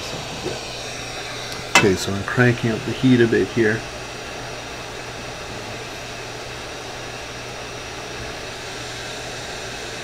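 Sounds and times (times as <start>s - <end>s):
heat gun blowing hiss: 0.0s - 10.0s.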